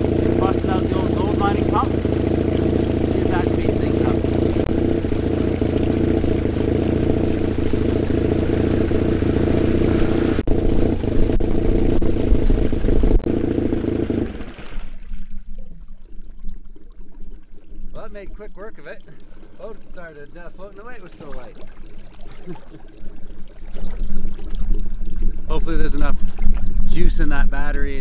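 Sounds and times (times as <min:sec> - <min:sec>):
pump engine running: 0:00.0 - 0:15.1, 0:17.4 - 0:28.0
outboard motor idling: 0:00.0 - 0:16.1, 0:16.7 - 0:28.0
water gushing: 0:00.0 - 0:28.0.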